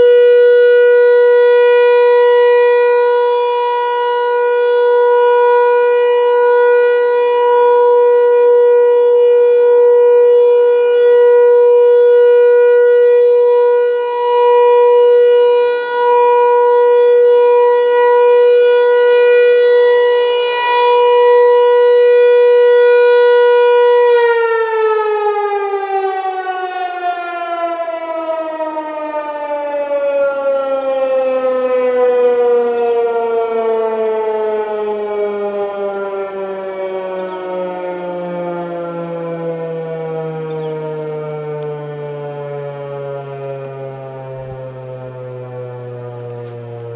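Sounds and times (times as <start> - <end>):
rotating siren single-tone alert: 0.0 - 46.9.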